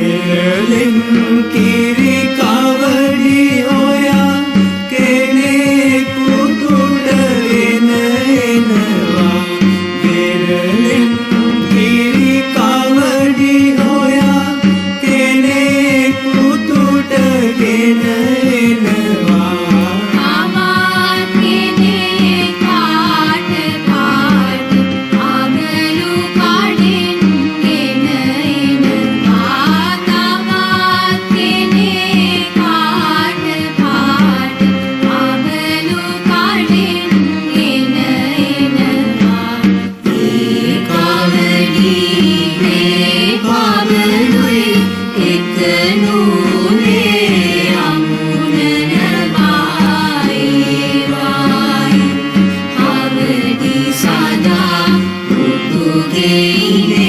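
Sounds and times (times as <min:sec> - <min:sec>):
instrumental accompaniment with percussion: 0:00.0 - 0:57.0
person singing: 0:00.0 - 0:57.0.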